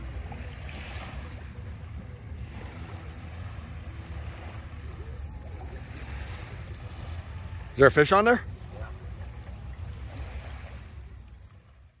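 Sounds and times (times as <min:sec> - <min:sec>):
small waves lapping: 0:00.0 - 0:12.0.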